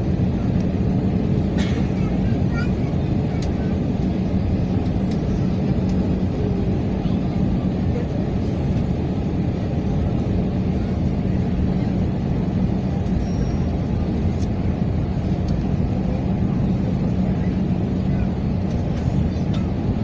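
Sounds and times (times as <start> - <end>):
airplane cabin noise: 0.0 - 20.0.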